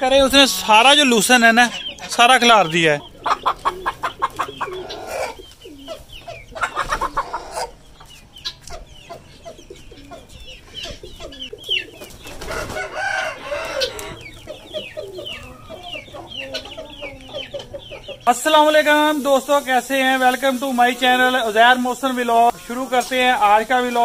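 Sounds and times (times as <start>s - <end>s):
chickens clucking: 0.0s - 24.0s
chicks peeping: 0.0s - 24.0s.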